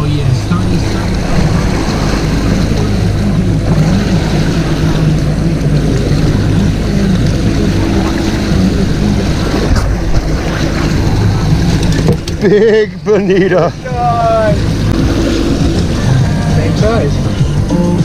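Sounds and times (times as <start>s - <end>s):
outboard motor humming: 0.0s - 18.0s
water rushing along hull: 0.0s - 18.0s.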